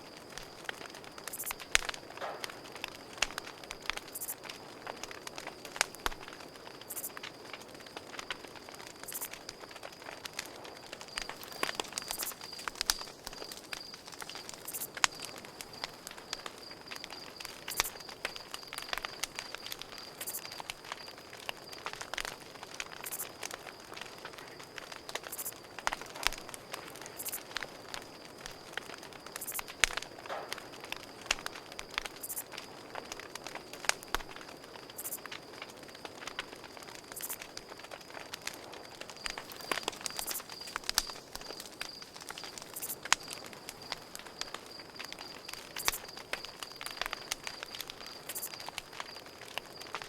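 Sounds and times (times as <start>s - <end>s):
campfire crackling and popping: 0.0s - 50.0s
crickets chirping: 0.0s - 50.0s.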